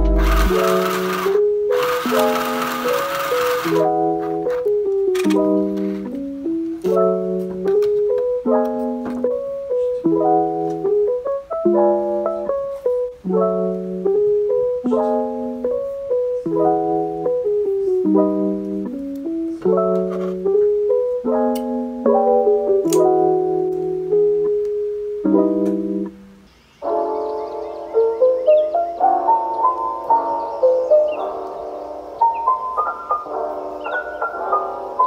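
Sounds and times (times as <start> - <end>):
piano chords: 0.0 - 35.0.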